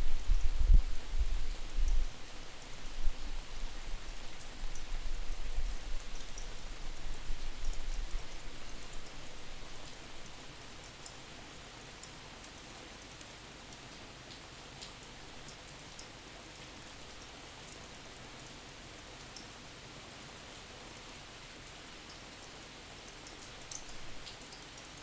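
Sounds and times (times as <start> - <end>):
steady rain: 0.0 - 25.0
light drips ticking: 0.3 - 19.6, 21.6 - 25.0.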